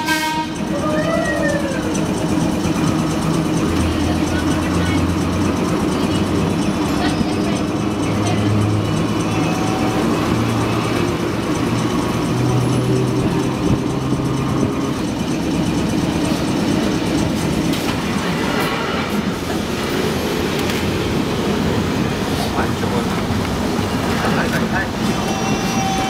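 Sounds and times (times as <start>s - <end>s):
streetcar wheels rumbling on rail: 0.0s - 26.0s.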